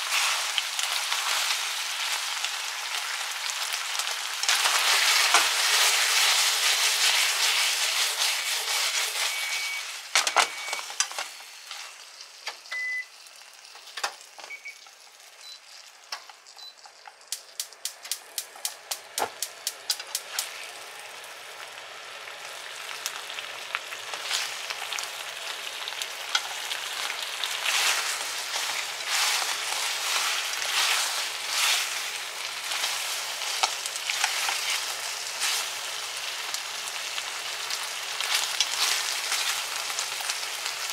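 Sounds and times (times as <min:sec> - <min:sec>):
chicken wings sizzling in a pan: 0:00.0 - 0:40.9.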